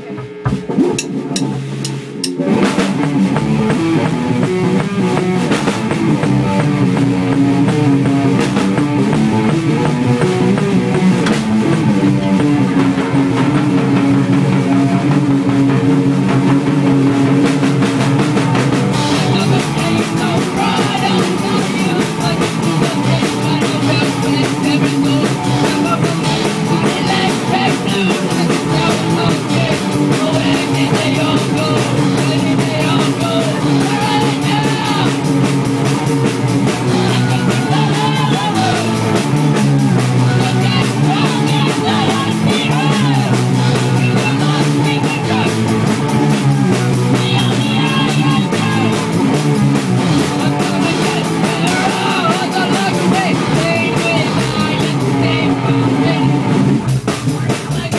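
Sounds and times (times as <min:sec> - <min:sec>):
distorted electric guitars: 0:00.0 - 0:57.9
drums and cymbals: 0:00.0 - 0:57.9.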